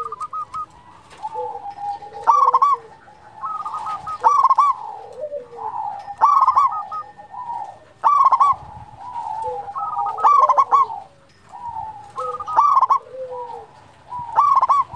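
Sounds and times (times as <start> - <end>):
dove cooing: 0.0 - 14.9.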